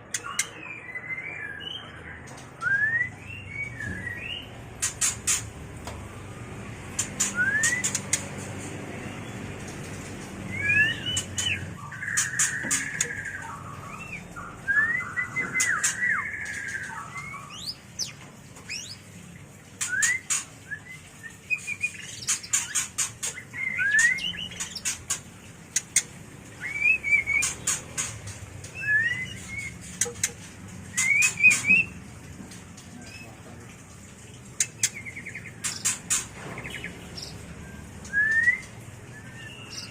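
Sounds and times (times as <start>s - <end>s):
bird whistled notes and warbles: 0.0s - 5.4s, 7.0s - 9.4s, 10.4s - 32.0s, 34.6s - 39.9s.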